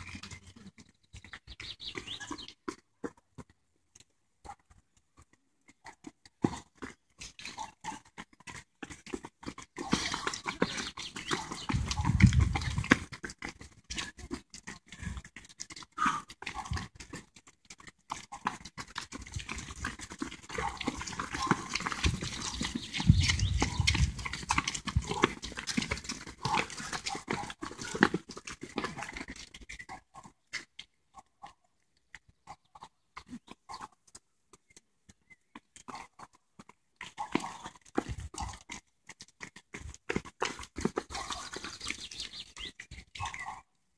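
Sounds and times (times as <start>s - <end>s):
runners' footsteps on brick path: 0.0s - 43.9s.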